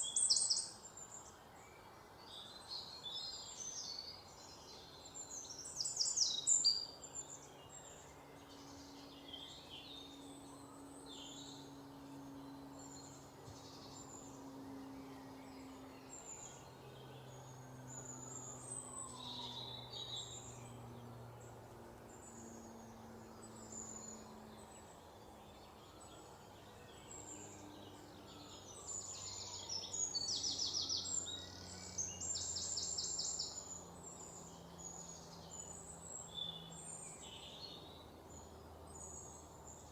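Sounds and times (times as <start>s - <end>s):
faint low hum: 0.0s - 39.9s
small birds chirping: 0.0s - 39.9s.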